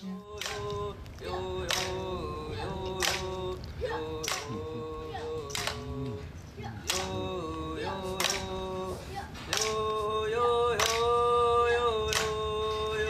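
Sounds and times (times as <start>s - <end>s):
boys singing in unison: 0.0s - 13.0s.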